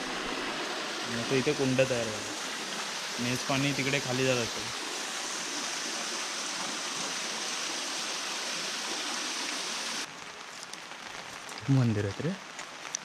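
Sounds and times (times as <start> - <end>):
rushing water stream: 0.0 - 13.0.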